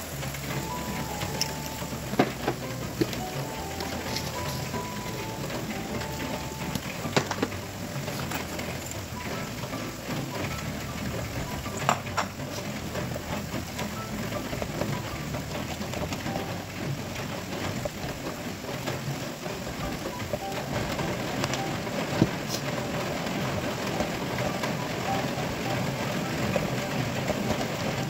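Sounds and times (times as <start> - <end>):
bean sprouts sizzling in wok: 0.0 - 28.0.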